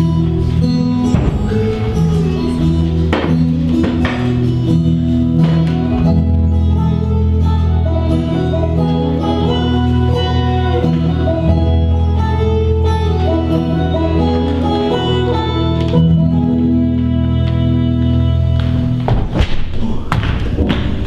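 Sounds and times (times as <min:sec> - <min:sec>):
banjo: 0:00.0 - 0:17.6
plucked guitar: 0:00.0 - 0:19.1
steady bass line: 0:00.0 - 0:19.1
bluegrass music: 0:00.0 - 0:19.4.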